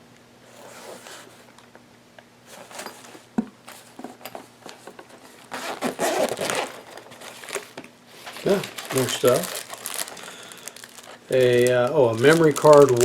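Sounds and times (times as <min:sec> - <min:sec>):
case rustling: 0:00.5 - 0:01.6, 0:02.5 - 0:13.0.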